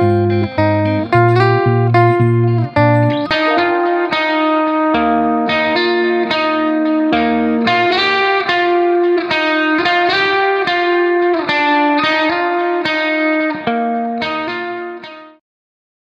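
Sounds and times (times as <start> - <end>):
plucked guitar melody: 0.0 - 15.4.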